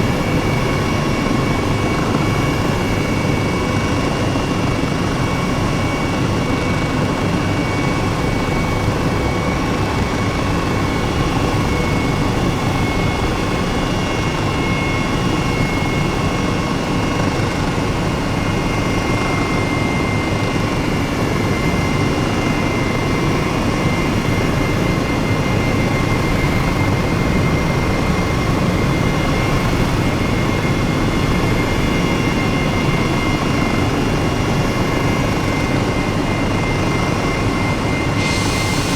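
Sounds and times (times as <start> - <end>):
constant whining tones: 0.0 - 38.9
engine drone: 0.0 - 38.9.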